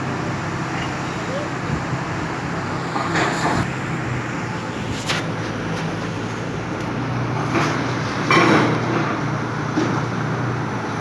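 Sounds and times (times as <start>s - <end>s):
excavator diesel engines running: 0.0s - 11.0s.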